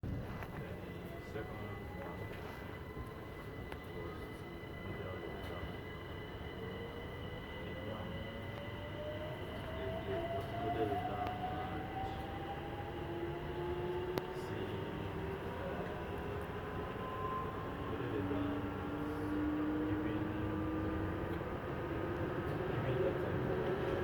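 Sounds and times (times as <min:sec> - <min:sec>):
wheels rumbling on rails: 0:00.0 - 0:24.0
traction motors whining: 0:00.4 - 0:24.0.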